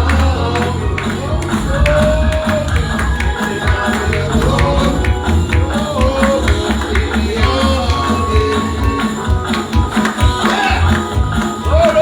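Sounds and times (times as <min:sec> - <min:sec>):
live gospel music: 0:00.0 - 0:12.0
tambourine shaking: 0:00.0 - 0:12.0.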